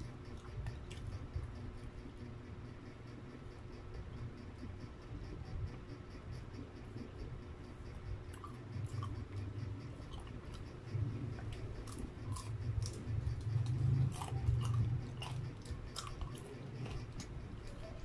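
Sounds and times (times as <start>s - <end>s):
chewing crunchy fried chicken: 0.0s - 18.0s.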